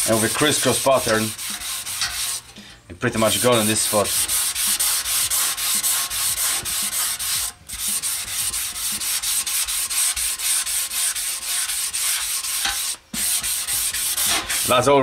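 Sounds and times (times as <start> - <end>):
sandpaper rasping on metal: 0.0 - 15.0.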